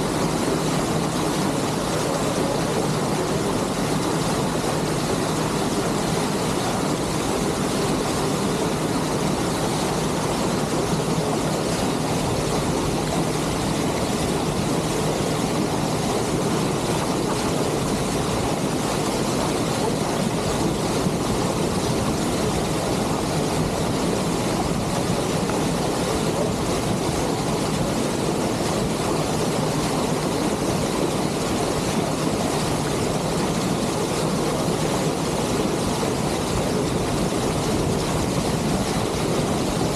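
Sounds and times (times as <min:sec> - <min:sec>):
water rushing along hull: 0:00.0 - 0:39.9
wind: 0:00.0 - 0:39.9.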